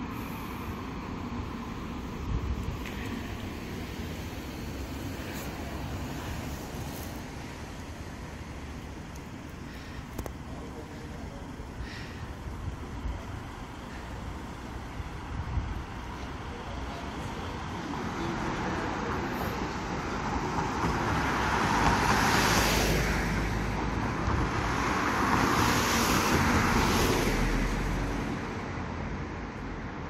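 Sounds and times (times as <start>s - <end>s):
cars passing: 0.0s - 30.0s.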